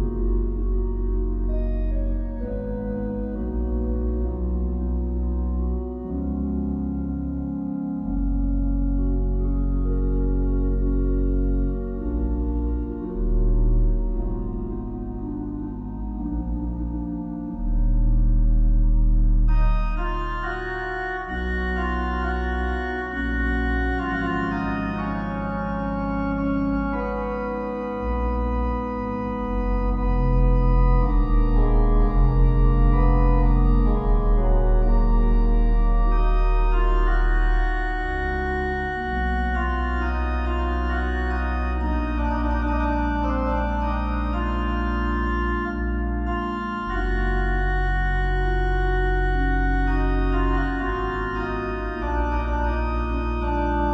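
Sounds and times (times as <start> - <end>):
organ playing sustained chords: 0.0 - 53.9.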